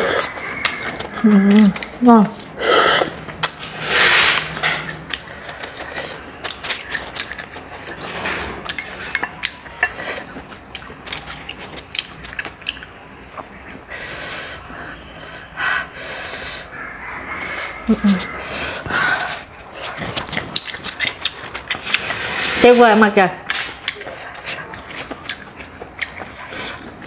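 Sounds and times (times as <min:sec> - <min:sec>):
chewing: 0:00.0 - 0:13.9, 0:16.6 - 0:22.5, 0:23.5 - 0:27.0.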